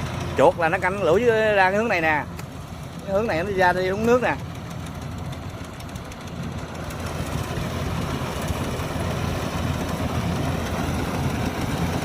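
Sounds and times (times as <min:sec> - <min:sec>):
combine harvester engine running: 0:00.0 - 0:12.0.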